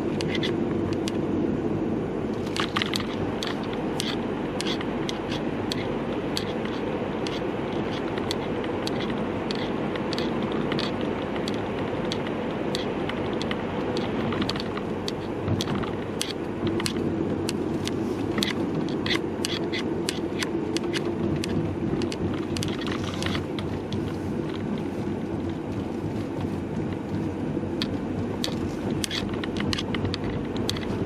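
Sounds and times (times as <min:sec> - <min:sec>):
car road and engine noise: 0:00.0 - 0:31.0
camera strap rattling: 0:02.4 - 0:31.0.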